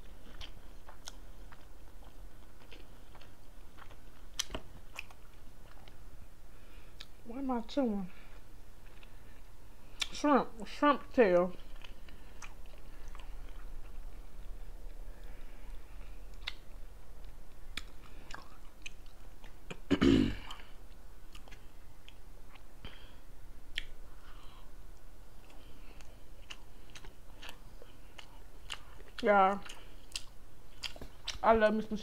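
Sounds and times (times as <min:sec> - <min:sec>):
person chewing food: 0:00.0 - 0:06.0, 0:06.6 - 0:07.2, 0:08.2 - 0:10.2, 0:11.6 - 0:31.4.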